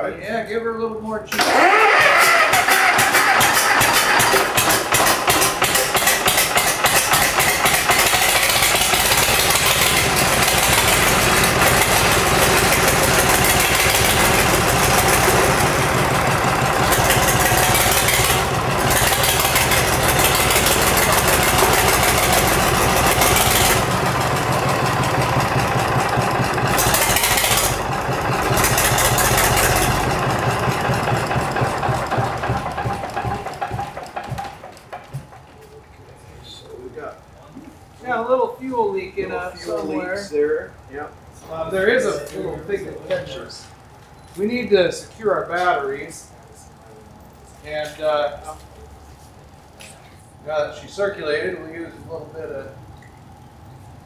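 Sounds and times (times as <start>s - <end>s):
diesel engine running: 1.3s - 54.0s.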